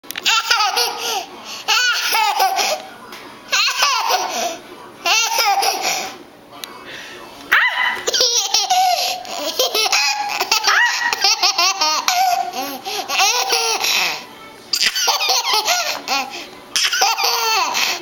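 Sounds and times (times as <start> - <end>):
baby laughing: 0.2 - 2.8, 3.5 - 6.2, 7.5 - 14.2, 14.8 - 18.0.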